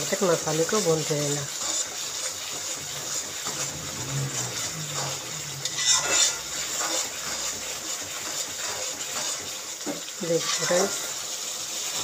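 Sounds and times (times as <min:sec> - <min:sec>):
paste sizzling in hot oil: 0:00.0 - 0:12.0
spoon scraping a pan: 0:01.5 - 0:12.0.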